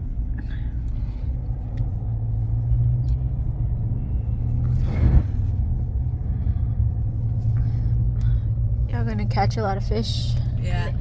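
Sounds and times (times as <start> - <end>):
car cabin rumble while driving: 0.0 - 11.0.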